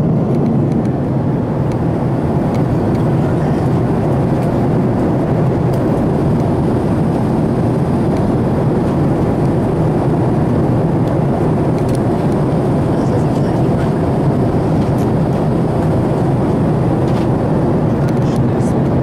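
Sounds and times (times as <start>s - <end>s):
airliner cabin engine rush: 0.0s - 19.0s.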